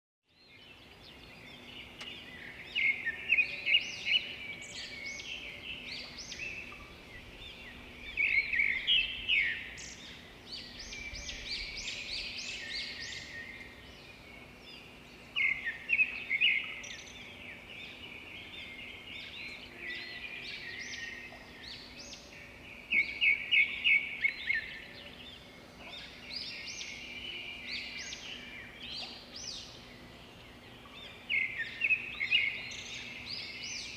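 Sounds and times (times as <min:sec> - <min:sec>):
songbirds singing and chirping: 0:00.2 - 0:33.9.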